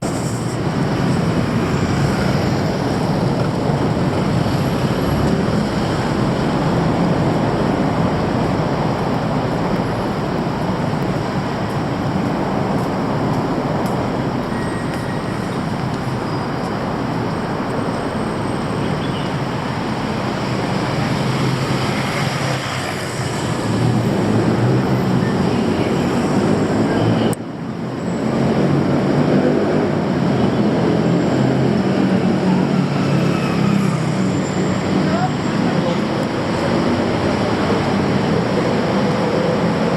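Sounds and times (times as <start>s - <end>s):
city traffic: 0.0s - 39.9s
vehicle engines rumbling: 0.0s - 39.9s.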